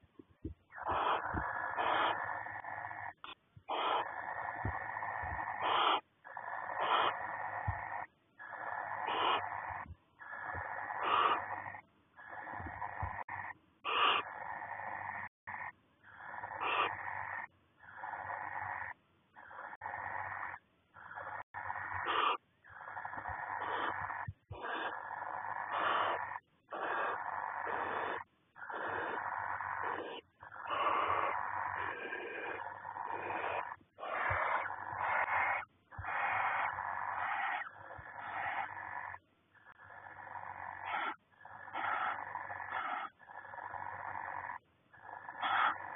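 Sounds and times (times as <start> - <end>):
barn owl hissing calls: 0.7 - 45.9.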